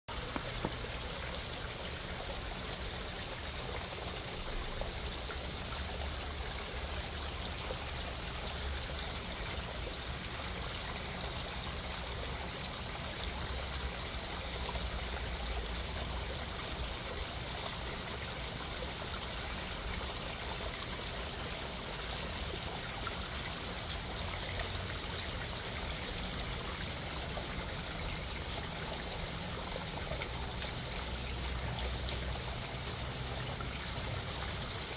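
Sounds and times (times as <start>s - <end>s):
waterfall trickling and splashing: 0.1s - 34.9s.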